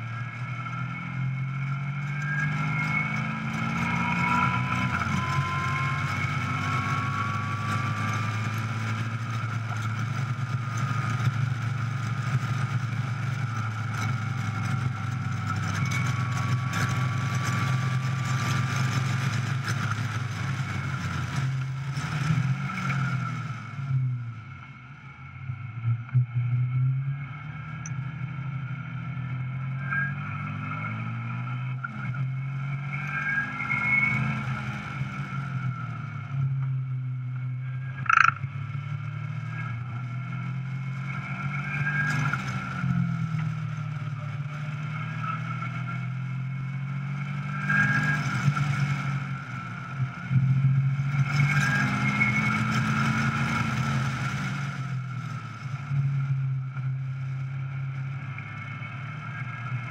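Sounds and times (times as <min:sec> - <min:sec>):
car engine running hard: 0:00.0 - 0:26.2, 0:27.0 - 0:59.9.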